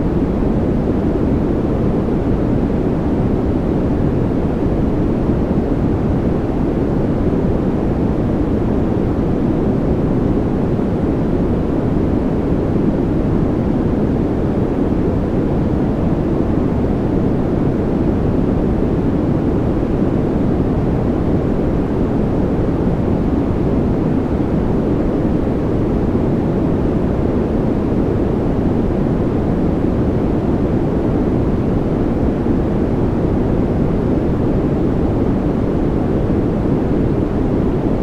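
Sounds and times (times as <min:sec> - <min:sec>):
deep white noise: 0:00.0 - 0:38.0.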